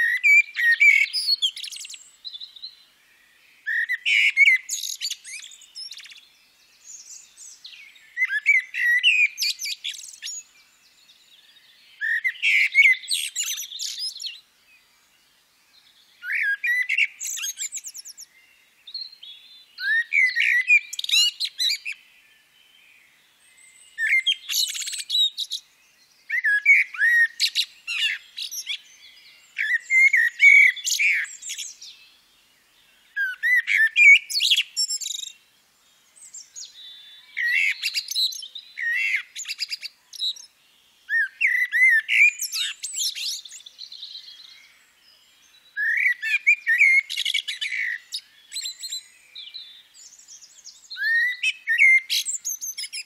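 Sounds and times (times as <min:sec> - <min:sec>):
songbird chirps and whistles: 0:00.0 - 0:53.0.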